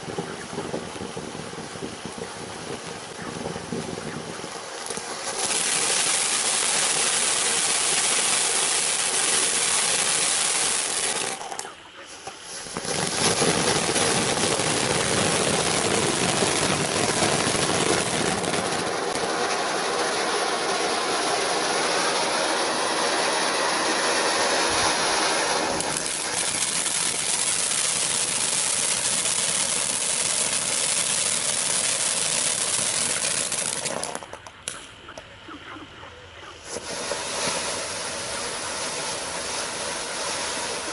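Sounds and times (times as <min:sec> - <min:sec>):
firework fountain hissing: 0:00.0 - 0:35.2, 0:36.5 - 0:40.9.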